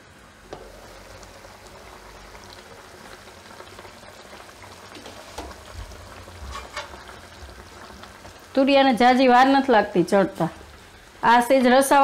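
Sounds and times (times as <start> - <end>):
curry bubbling in a pan: 0.0 - 11.4.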